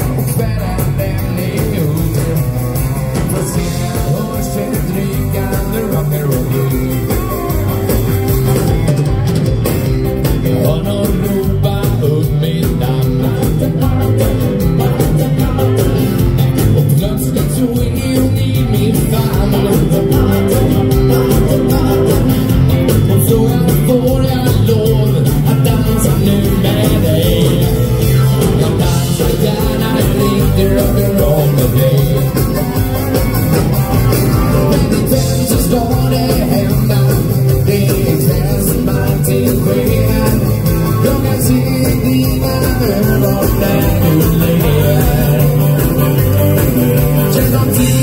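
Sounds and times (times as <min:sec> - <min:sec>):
male lead vocal: 0:00.0 - 0:09.2, 0:10.1 - 0:48.0
bass: 0:00.0 - 0:48.0
drum kit: 0:00.0 - 0:48.0
electric guitar: 0:00.0 - 0:48.0
stage piano and keyboards: 0:00.0 - 0:48.0.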